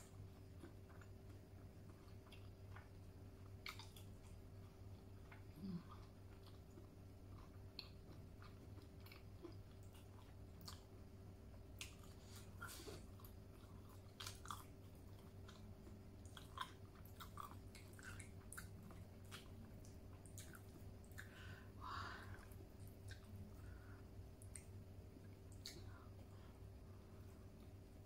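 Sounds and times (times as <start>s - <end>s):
person chewing food: 0.0s - 27.8s.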